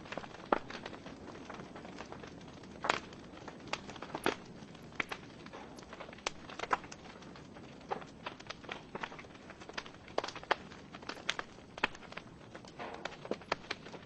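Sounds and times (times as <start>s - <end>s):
fire crackling: 0.0s - 14.0s
soft steady hiss: 0.0s - 14.0s.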